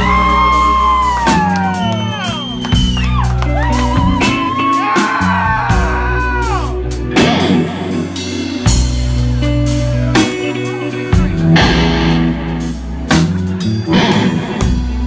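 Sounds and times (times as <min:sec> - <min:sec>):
bass: 0:00.0 - 0:15.0
drums: 0:00.0 - 0:15.0
lead electric guitar bending notes: 0:02.9 - 0:15.0.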